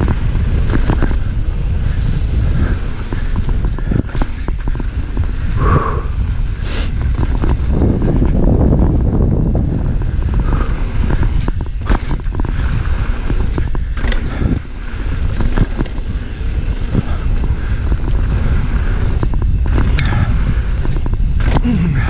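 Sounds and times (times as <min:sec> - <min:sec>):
tyres rolling on dirt: 0:00.0 - 0:05.6, 0:06.3 - 0:22.0
bike clacking over bumps: 0:00.0 - 0:22.0
wind buffeting microphone: 0:00.0 - 0:22.0.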